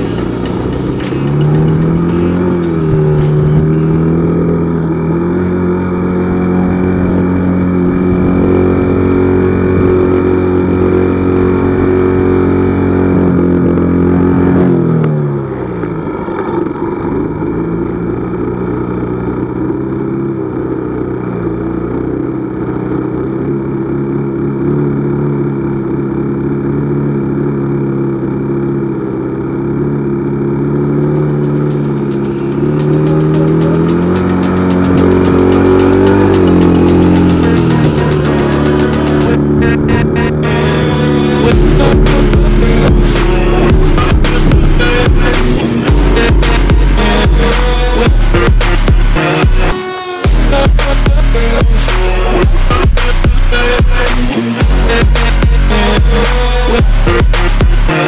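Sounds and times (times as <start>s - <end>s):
motorcycle engine under load: 0.0s - 58.0s.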